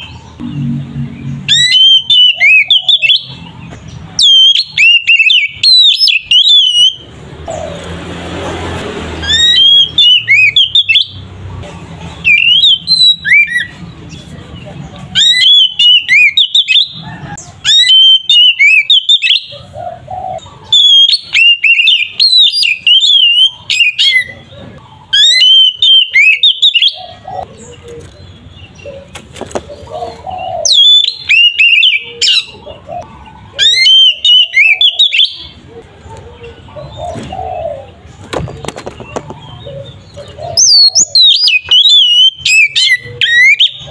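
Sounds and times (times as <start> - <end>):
magpie-robin singing: 0.0 - 7.9, 9.2 - 43.9.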